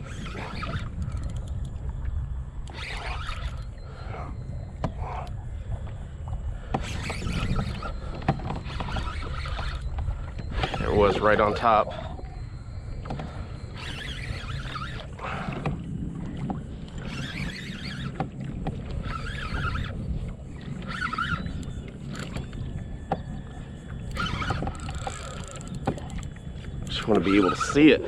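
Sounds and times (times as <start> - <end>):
water lapping against kayak hull: 0.0 - 28.0.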